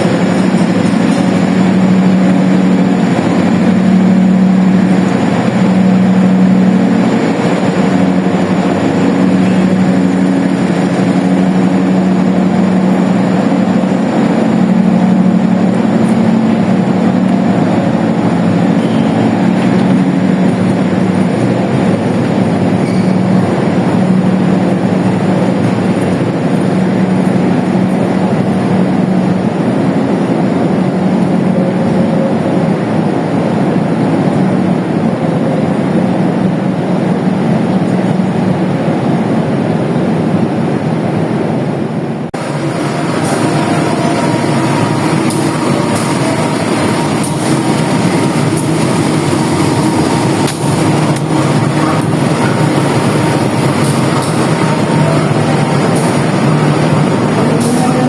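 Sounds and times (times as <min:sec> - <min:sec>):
diesel train engine hum: 0:00.0 - 0:58.0
train rail running noise: 0:00.0 - 0:58.0.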